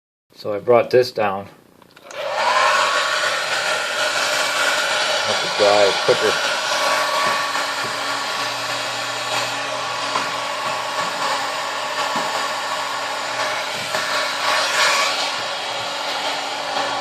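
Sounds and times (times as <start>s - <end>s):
hair dryer blowing: 2.0s - 17.0s.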